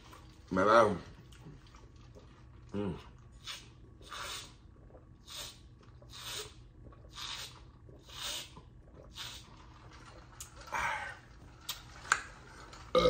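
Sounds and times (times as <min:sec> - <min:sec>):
person gulping a drink: 0:01.1 - 0:13.0.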